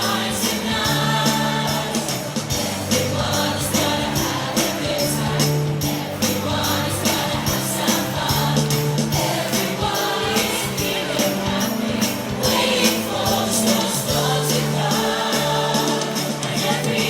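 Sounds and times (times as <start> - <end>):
group singing: 0.0 - 17.0
jingle bells shaking: 0.0 - 17.0
upbeat christmas song: 0.0 - 17.0.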